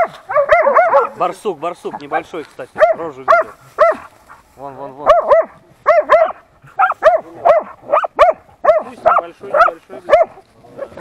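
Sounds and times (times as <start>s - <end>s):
dog barking: 0.0s - 1.3s, 2.8s - 4.4s, 5.0s - 11.0s.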